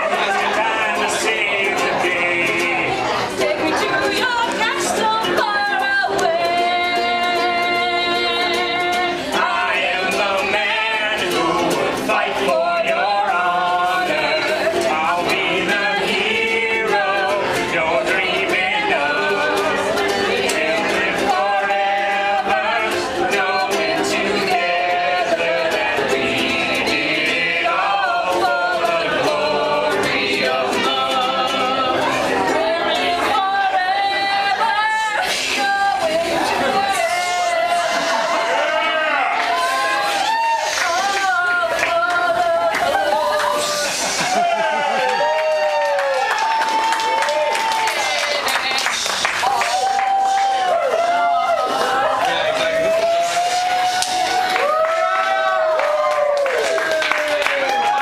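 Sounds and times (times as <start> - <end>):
voices singing together: 0.0 - 58.0.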